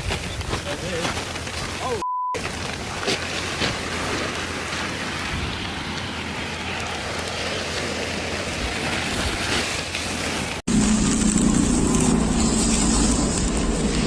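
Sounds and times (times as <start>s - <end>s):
heavy rain rushing: 0.0s - 14.0s.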